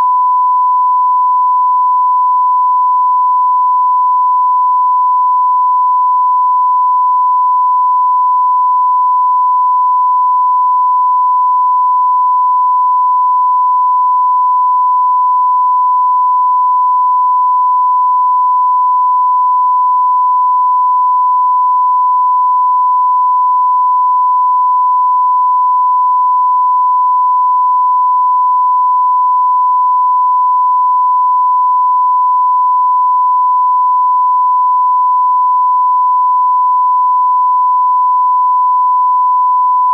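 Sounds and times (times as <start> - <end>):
steady sine test tone: 0.0 - 39.9.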